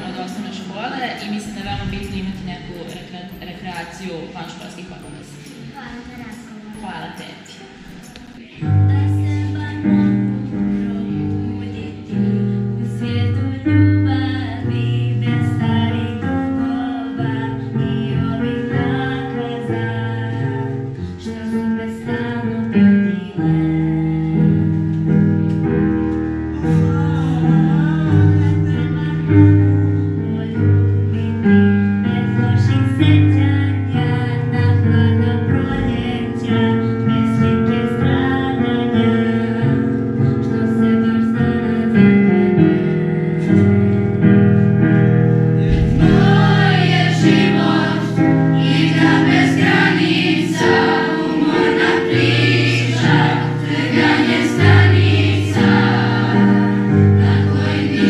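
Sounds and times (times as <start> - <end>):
piano accompaniment: 0.0 - 58.0
children's choir singing: 4.4 - 43.6, 45.7 - 58.0.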